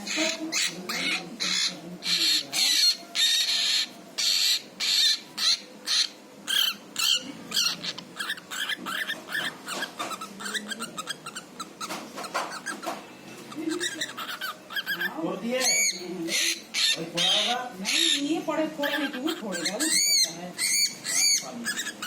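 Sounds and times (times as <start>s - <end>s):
cockatiel screeching: 0.0s - 22.0s.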